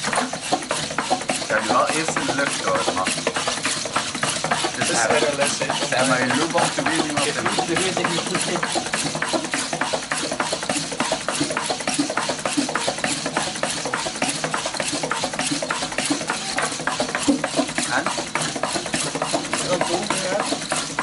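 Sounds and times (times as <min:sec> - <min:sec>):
joint motors humming: 0:00.0 - 0:21.0
robot feet tapping: 0:00.0 - 0:21.0.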